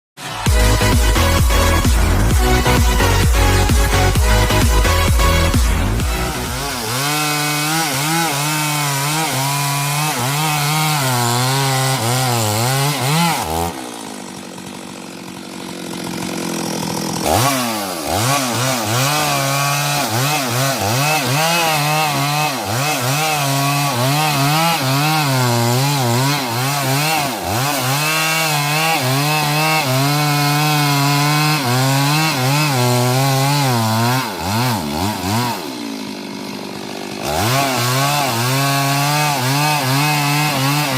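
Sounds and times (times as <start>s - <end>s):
chainsaw cutting wood: 0.2s - 40.9s.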